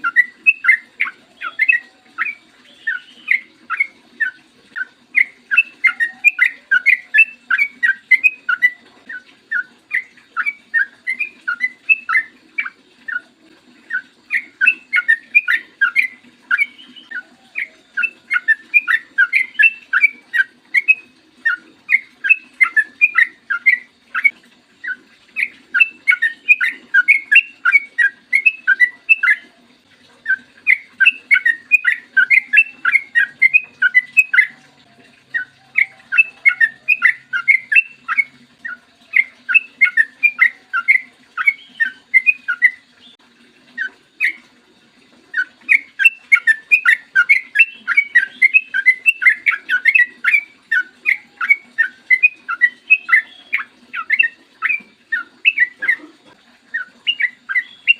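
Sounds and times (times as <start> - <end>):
bird singing chirping notes: 0.0 - 13.2, 13.9 - 29.4, 30.2 - 43.2, 45.4 - 56.0, 56.7 - 57.9.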